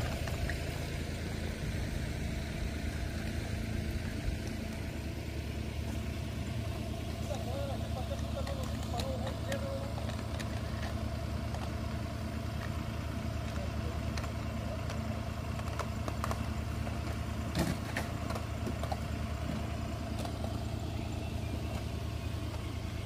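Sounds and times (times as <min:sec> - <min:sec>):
loader engine idling: 0:00.0 - 0:23.0.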